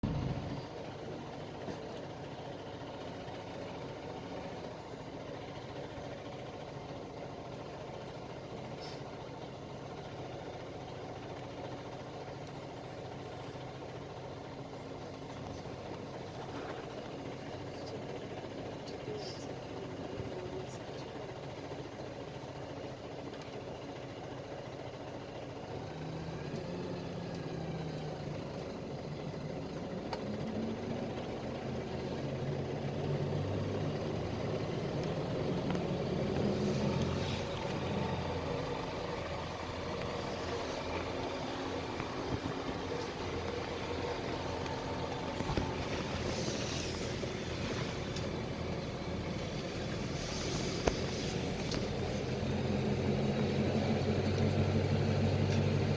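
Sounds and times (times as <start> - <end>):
bus diesel engine: 0.0 - 55.9
road noise: 0.0 - 55.9.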